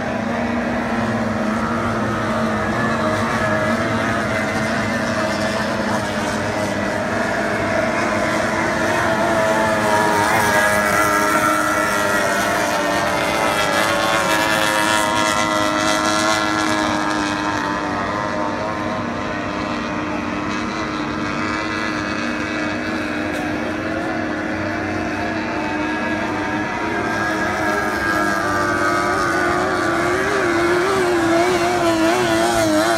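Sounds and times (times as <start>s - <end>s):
outboard engines racing: 0.0s - 32.9s.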